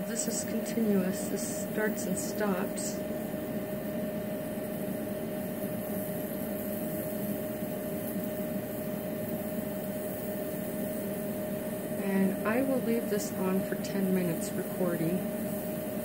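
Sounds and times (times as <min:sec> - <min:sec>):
machine electrical hum with tone: 0:00.0 - 0:16.0.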